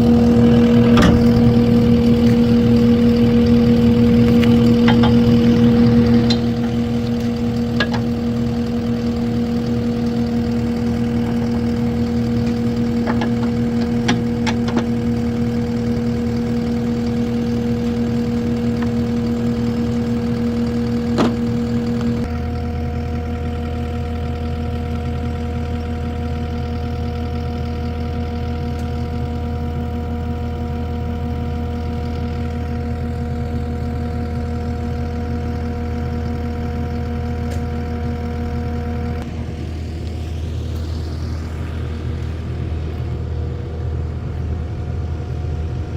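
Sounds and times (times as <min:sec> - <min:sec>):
engine idling: 0:00.0 - 0:45.9.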